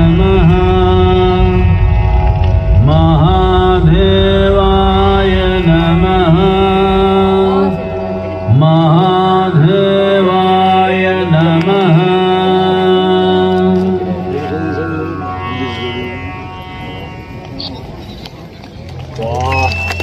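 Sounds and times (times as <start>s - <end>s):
devotional chant over a drone: 0.0s - 18.1s.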